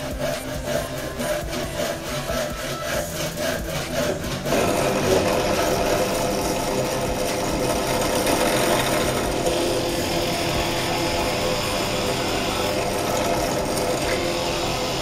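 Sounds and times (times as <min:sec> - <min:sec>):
hand saw cutting wood: 0:00.0 - 0:15.0
drill press boring into wood: 0:00.2 - 0:15.0.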